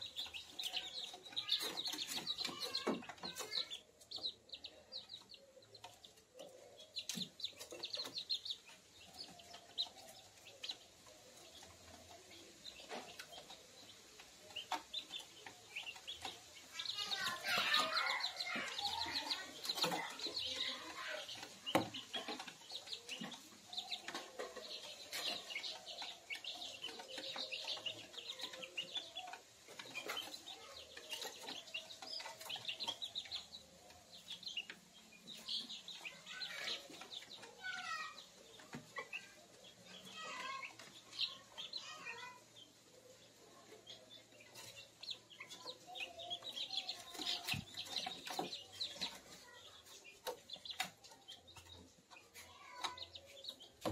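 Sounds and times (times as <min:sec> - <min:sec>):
chicks peeping and clucking: 0:00.0 - 0:53.9.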